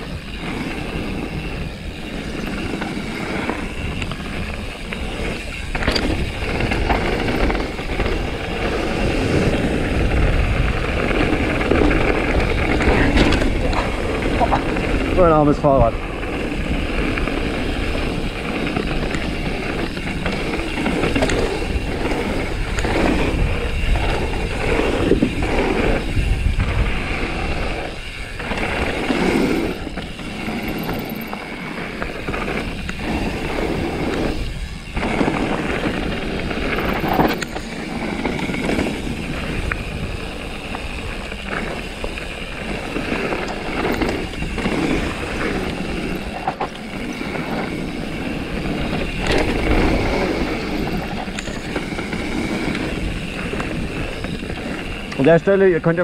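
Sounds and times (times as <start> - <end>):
bike rattling: 0.0 - 56.0
bike tyres rushing over dirt: 0.0 - 56.0.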